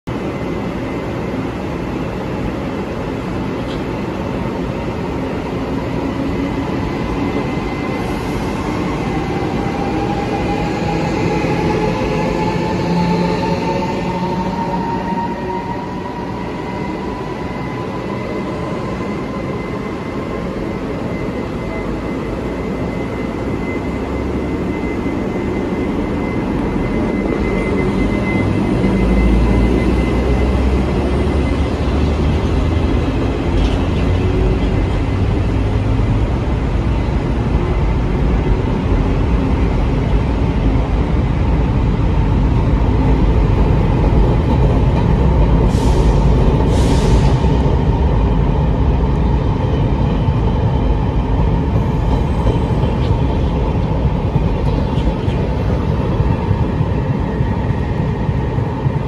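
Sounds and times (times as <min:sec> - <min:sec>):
train coaches rumbling past: 0:00.1 - 0:59.0.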